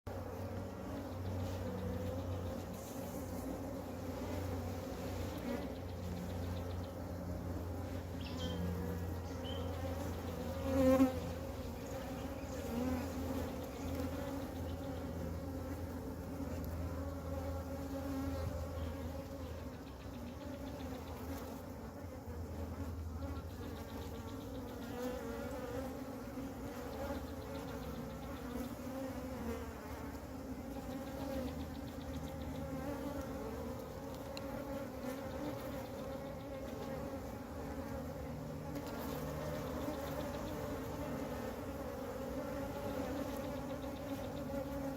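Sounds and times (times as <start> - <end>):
honey bee swarm buzzing: 0.1 - 44.9.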